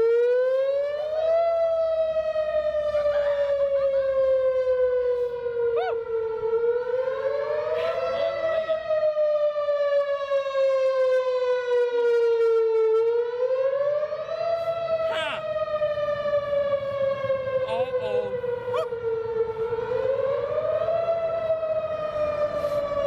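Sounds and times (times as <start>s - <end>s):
warning siren tone: 0.0s - 23.0s.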